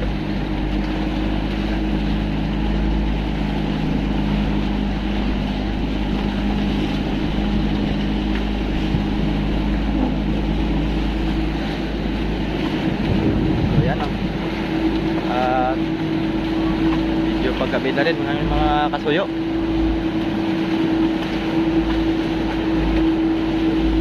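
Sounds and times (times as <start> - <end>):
motorboat engine running: 0.0 - 24.0
wind and water rushing: 0.0 - 24.0.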